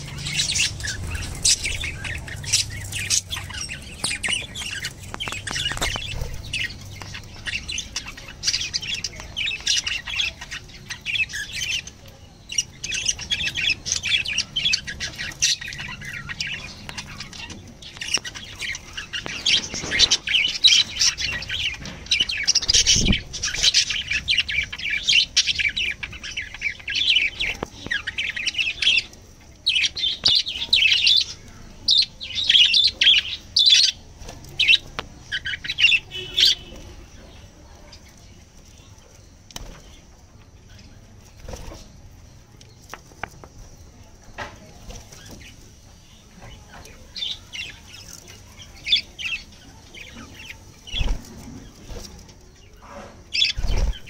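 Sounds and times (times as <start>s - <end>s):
budgerigars chirping and chattering: 0.0s - 54.0s.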